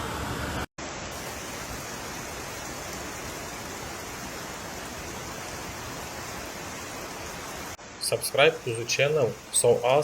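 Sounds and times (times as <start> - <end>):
rushing water: 0.0 - 10.0.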